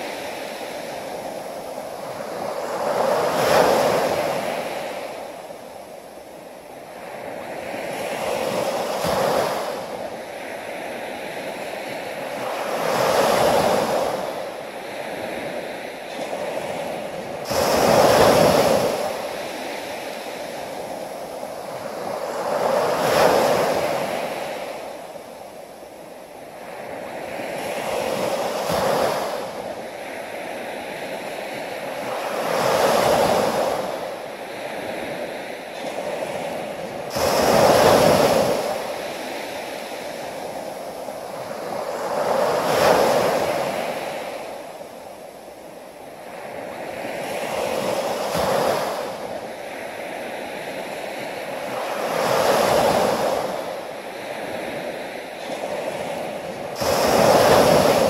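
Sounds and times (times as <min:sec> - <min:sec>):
hiss of surf: 0:00.0 - 0:58.0
waves breaking on sandy beach: 0:00.0 - 0:58.0.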